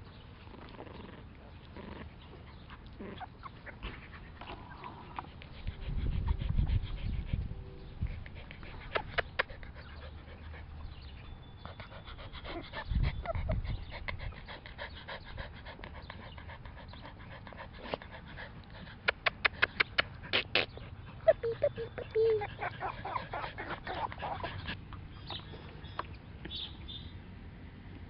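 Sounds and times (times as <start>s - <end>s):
puppy panting: 0.2s - 26.2s.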